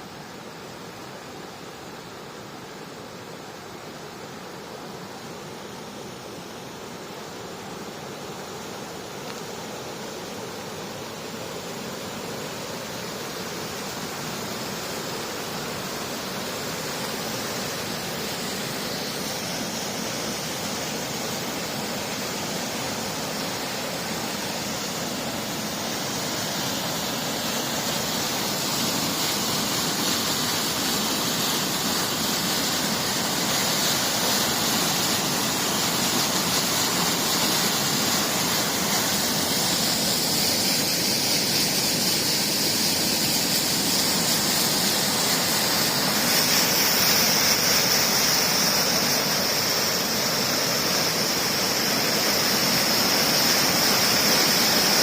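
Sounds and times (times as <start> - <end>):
rushing stream water: 0.0 - 55.0.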